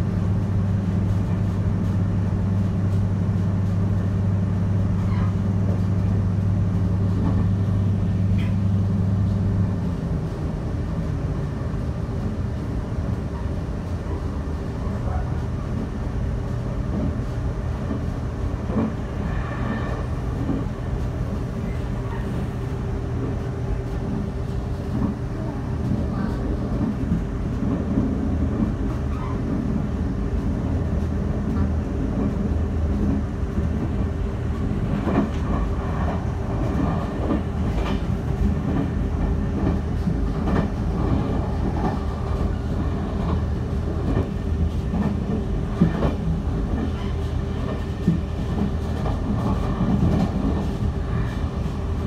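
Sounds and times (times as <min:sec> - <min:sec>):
train running rumble: 0:00.0 - 0:52.0.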